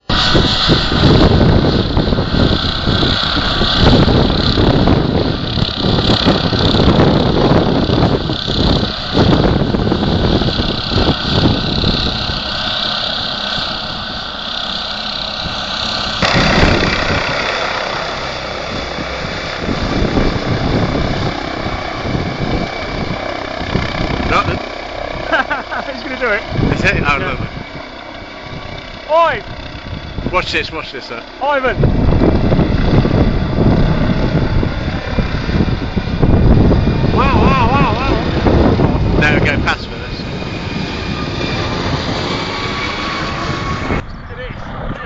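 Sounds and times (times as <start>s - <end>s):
helicopter turbine and rotor: 0.0s - 45.0s.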